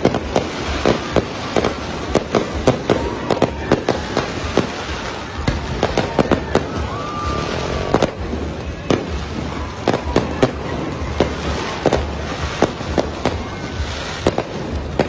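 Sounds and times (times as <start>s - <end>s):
fireworks exploding: 0.0s - 15.0s.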